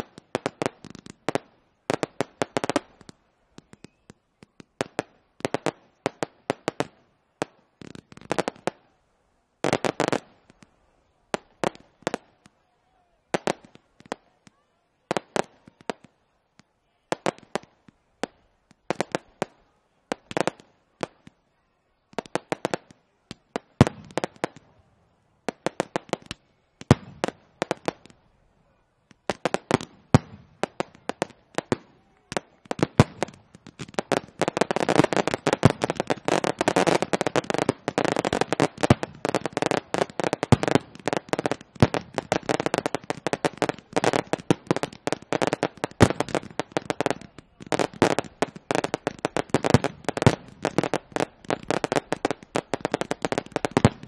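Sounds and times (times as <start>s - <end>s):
fireworks bursting with sharp bangs: 0.0s - 54.0s.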